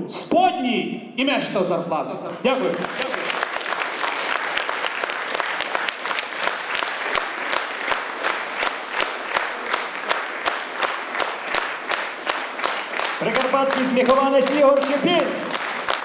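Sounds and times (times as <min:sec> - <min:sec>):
audience clapping in rhythm: 0:02.0 - 0:16.0.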